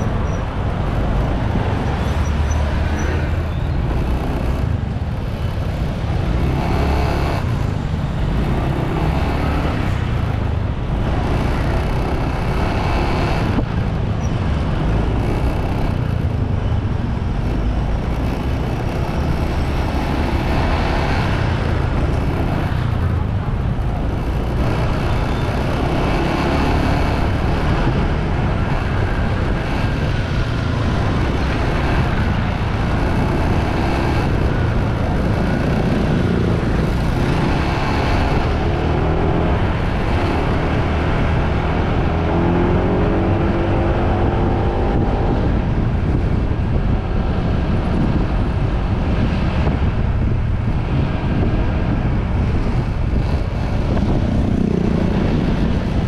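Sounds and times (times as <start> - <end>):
motorbike engine revving: 0.0 - 56.0
wind buffeting microphone: 0.0 - 56.0.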